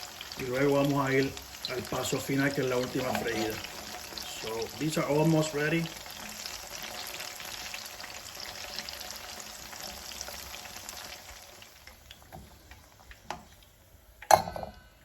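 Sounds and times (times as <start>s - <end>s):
food sizzling in hot oil: 0.0s - 14.6s.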